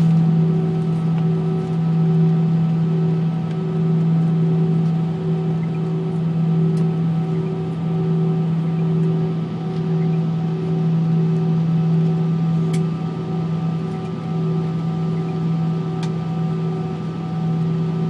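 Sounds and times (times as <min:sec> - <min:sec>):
jet engines humming: 0:00.0 - 0:18.0
pulsing higher tone: 0:00.0 - 0:18.0.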